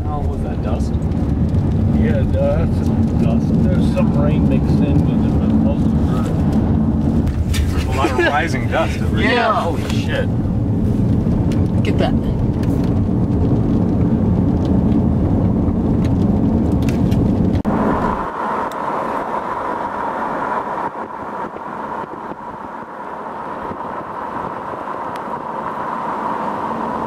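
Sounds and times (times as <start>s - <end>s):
gusty wind against car: 0.0s - 27.0s
road noise inside car: 0.0s - 27.0s.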